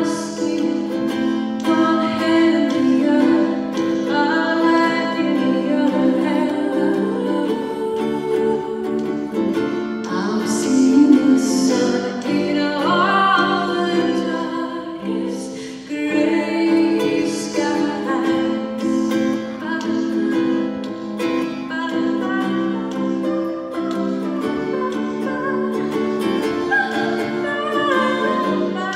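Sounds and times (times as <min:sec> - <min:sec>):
ukulele strumming: 0:00.0 - 0:28.9
woman singing: 0:00.0 - 0:28.9.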